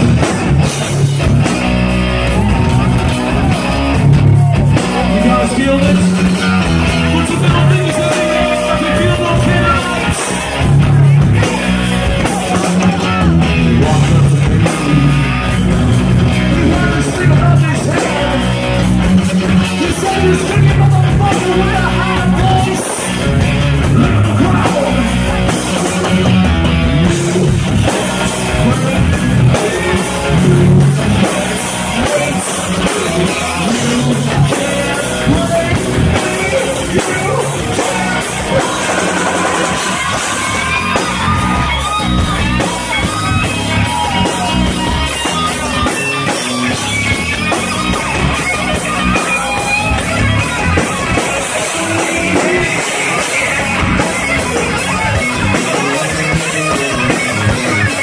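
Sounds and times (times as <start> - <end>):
live rock band playing: 0.0 - 58.0
person singing and shouting: 2.1 - 15.6, 16.2 - 58.0.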